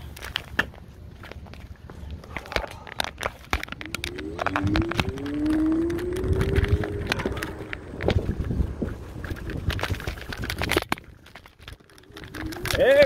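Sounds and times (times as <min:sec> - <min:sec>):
scooter wheels rattling on pavement: 0:00.0 - 0:13.0.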